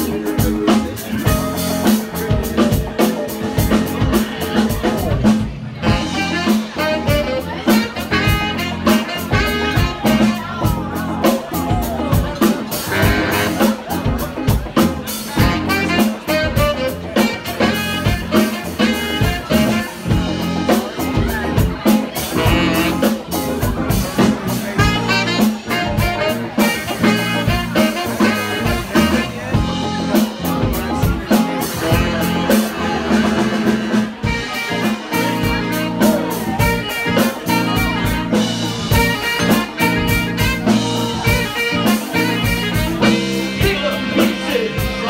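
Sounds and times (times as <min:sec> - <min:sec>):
bass: 0:00.0 - 0:45.0
drum kit beat: 0:00.0 - 0:45.0
electric guitar: 0:00.0 - 0:45.0
keyboard: 0:00.0 - 0:45.0
saxophone: 0:00.0 - 0:45.0.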